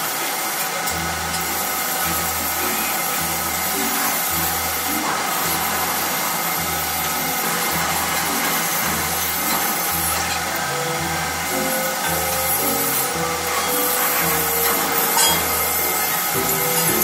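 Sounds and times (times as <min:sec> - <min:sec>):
lathe drilling metal: 0:00.0 - 0:17.0.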